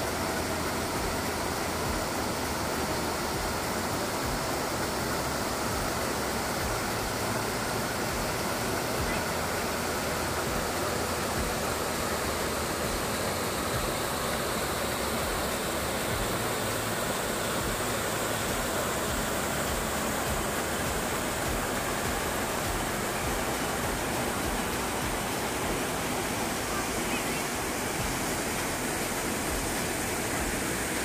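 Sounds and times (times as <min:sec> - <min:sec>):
waterfall rushing and splashing: 0:00.0 - 0:31.0.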